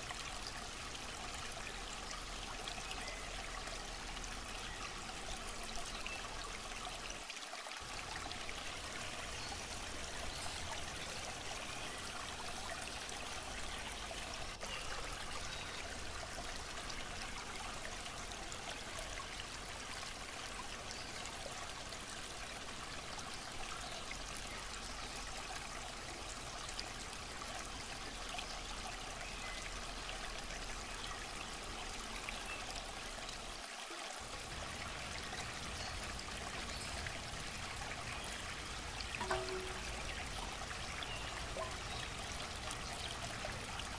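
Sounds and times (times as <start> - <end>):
water trickling: 0.0 - 43.9.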